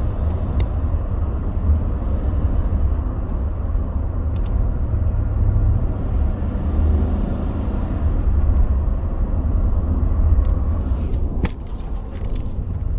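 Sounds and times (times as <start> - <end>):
engine running low rumble: 0.0 - 12.9.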